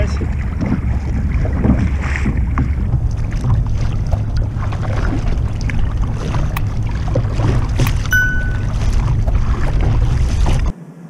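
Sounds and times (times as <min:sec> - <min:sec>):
wind buffeting microphone: 0:00.0 - 0:10.7
water splashing around kayak: 0:00.0 - 0:10.8.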